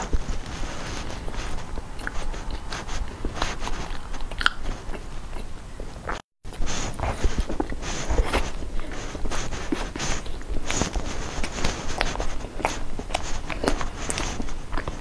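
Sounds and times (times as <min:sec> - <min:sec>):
chewing crunchy pastry: 0:00.0 - 0:15.0.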